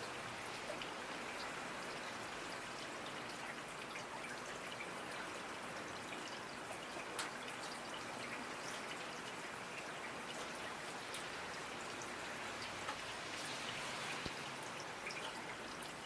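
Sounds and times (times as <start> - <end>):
rainfall hiss: 0.0 - 16.0.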